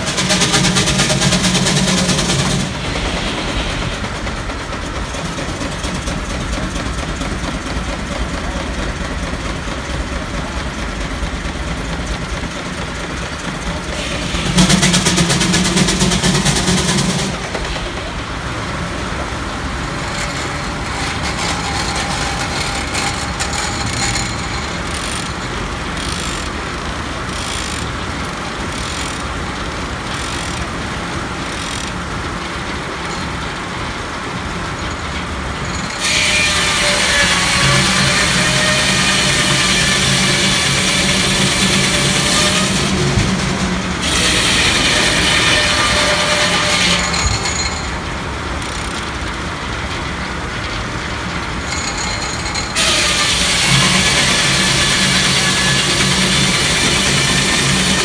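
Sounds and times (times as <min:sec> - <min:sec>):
circular saw sawmill running: 0:00.0 - 0:58.0
steam traction engine running: 0:00.0 - 0:58.0.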